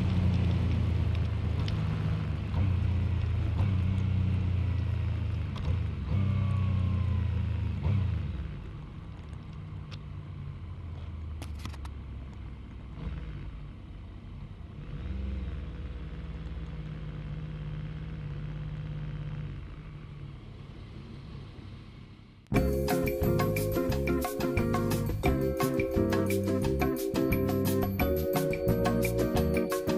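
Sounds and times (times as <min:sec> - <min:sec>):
motorcycle engine running at low revs: 0:00.0 - 0:29.9.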